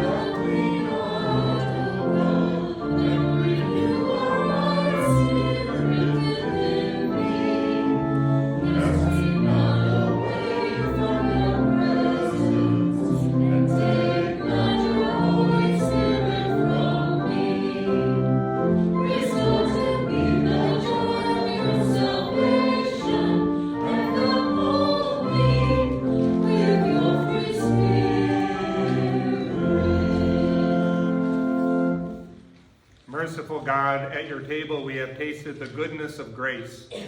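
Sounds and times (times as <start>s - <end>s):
congregation singing a hymn: 0.0s - 32.4s
instrumental accompaniment chords: 0.0s - 32.7s.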